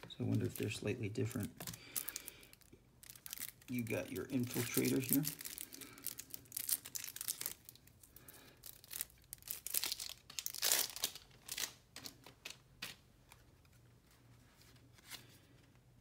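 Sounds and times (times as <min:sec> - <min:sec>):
plastic wrap tearing and crinkling: 0:00.0 - 0:13.0.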